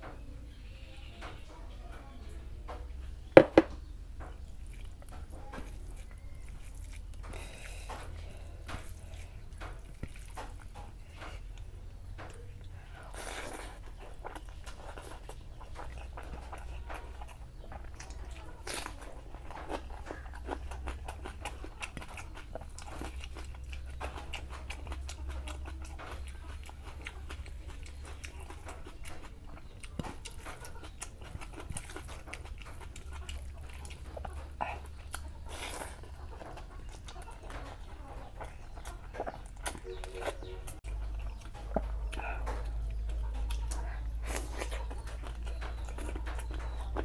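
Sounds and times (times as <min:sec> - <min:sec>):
person chewing crunchy food: 0:03.1 - 0:47.0.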